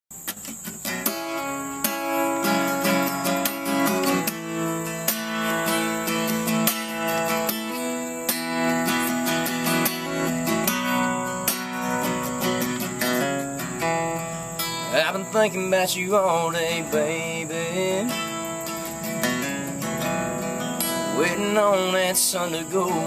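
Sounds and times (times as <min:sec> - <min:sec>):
acoustic guitar strummed and picked: 0:00.1 - 0:23.0.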